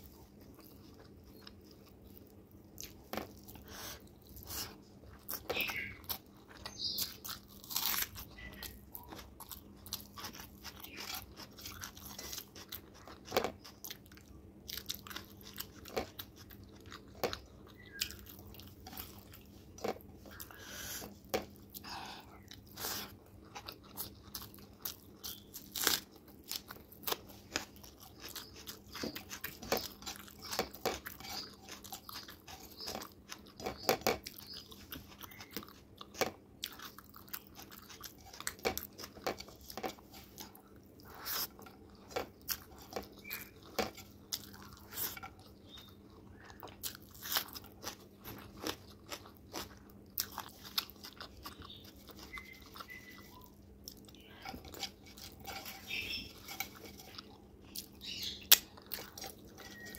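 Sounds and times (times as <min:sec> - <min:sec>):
wet chewing and lip smacks: 0:00.2 - 0:59.9.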